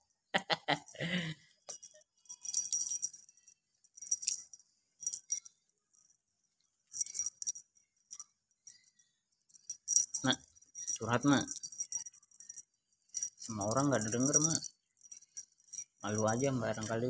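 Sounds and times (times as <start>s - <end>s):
small bells jingling: 0.5s - 17.0s.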